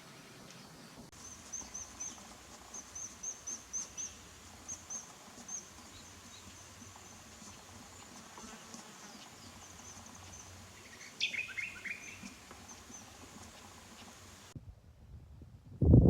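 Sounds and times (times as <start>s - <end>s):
small bird chirping: 0.5s - 8.2s, 8.9s - 14.2s.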